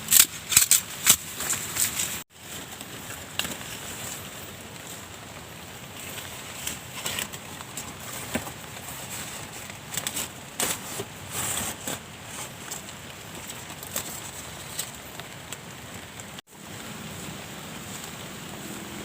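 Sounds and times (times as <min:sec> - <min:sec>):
steady rain hiss: 0:01.0 - 0:19.0.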